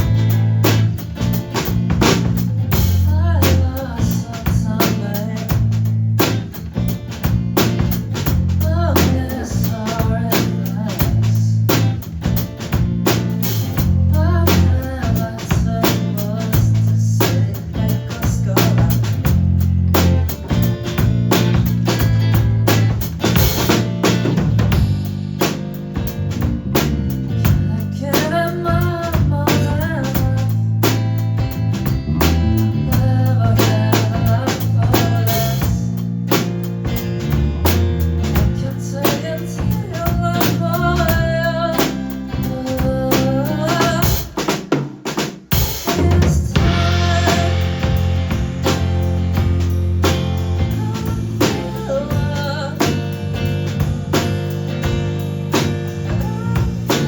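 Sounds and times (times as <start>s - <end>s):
bass: 0.0s - 57.0s
drum kit: 0.0s - 57.0s
live band playing: 0.0s - 57.0s.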